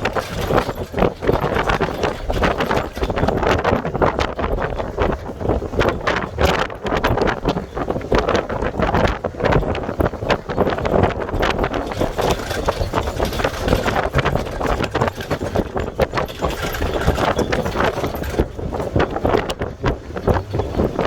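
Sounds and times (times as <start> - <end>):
knocks and rattles: 0.0 - 21.0
vehicle rumbling: 0.0 - 21.0.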